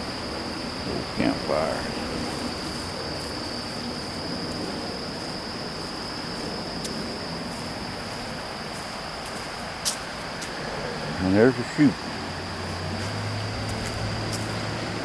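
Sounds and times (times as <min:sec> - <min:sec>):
insects shrilling: 0:00.2 - 0:15.0.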